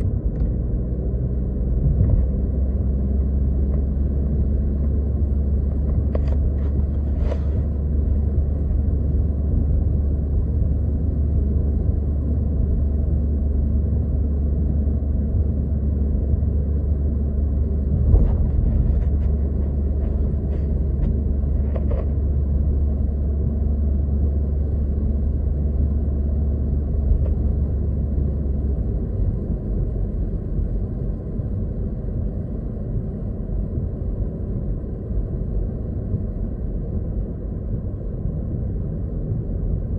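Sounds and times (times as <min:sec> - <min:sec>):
car driving rumble inside cabin: 0:00.0 - 0:39.9.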